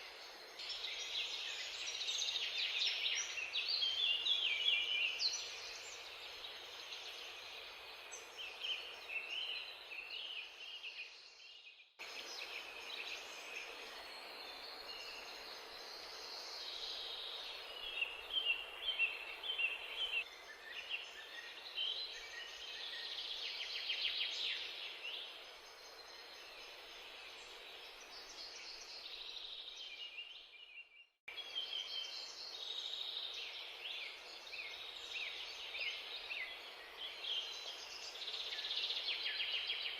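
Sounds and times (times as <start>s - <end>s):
steady background hiss: 0.0s - 30.4s, 31.3s - 39.9s.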